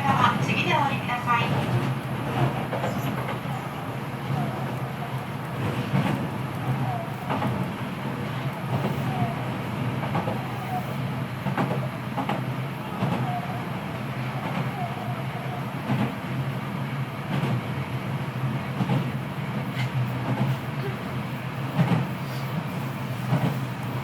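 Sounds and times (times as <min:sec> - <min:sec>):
train hum and rumble: 0:00.0 - 0:24.0.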